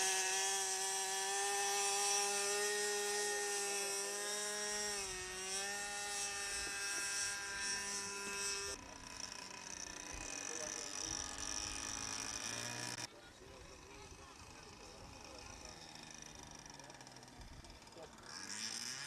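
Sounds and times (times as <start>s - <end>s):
model aircraft engine buzzing: 0.0s - 19.0s.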